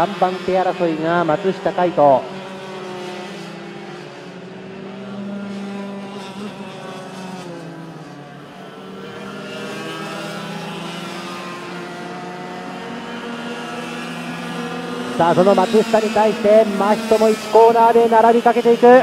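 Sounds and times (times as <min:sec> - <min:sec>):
racing kart engines buzzing: 0:00.0 - 0:19.0.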